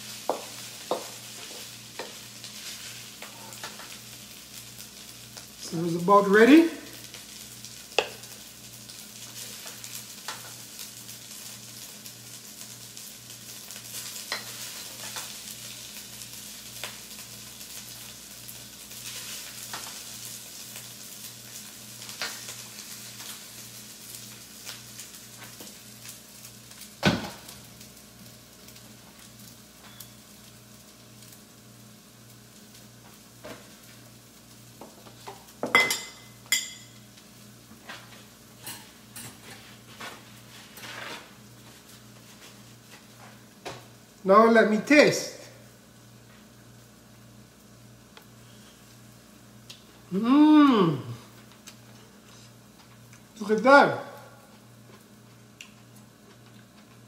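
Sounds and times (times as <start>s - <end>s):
rice sizzling in a wok: 0.0s - 57.0s.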